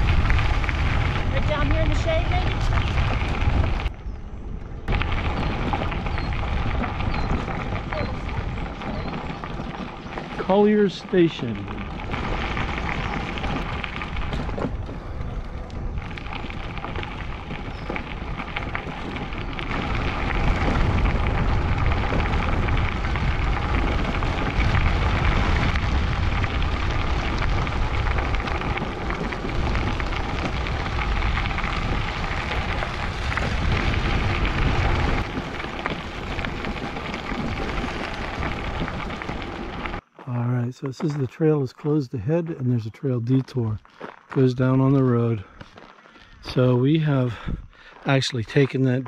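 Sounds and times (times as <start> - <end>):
wind rumbling on microphone: 0.0 - 40.2, 43.3 - 49.0
tyres crackling over gravel: 0.0 - 49.0.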